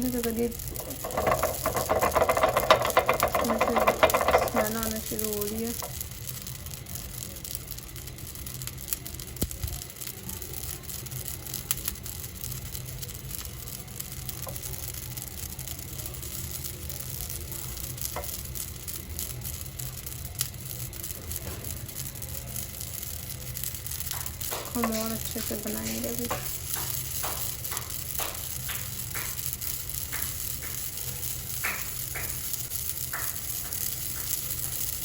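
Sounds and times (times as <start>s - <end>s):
seeds and garlic sizzling in pan: 0.0s - 35.0s.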